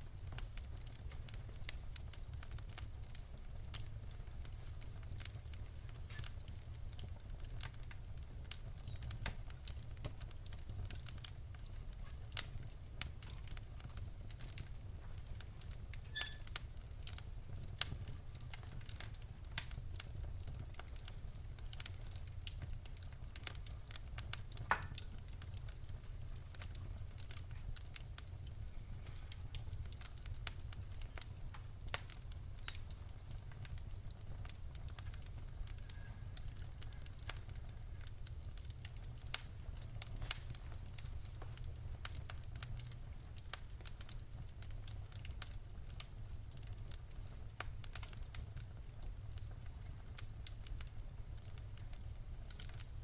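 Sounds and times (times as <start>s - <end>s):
crackles and pops of burning logs: 0.0s - 53.0s
low rumble of flames: 0.0s - 53.0s.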